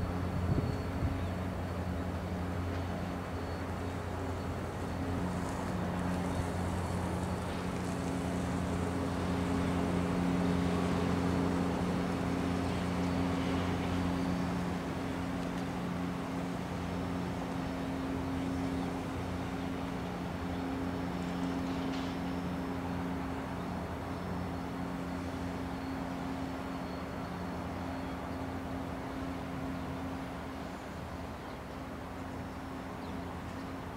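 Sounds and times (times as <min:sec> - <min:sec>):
diesel locomotive engine running: 0:00.0 - 0:33.9.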